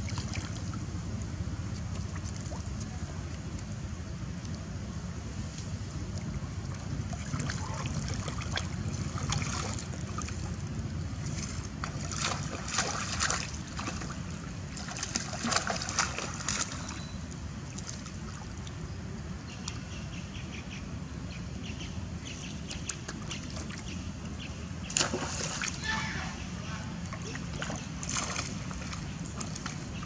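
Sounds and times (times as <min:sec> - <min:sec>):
water splashing and sloshing: 0:00.0 - 0:19.9, 0:22.4 - 0:30.0.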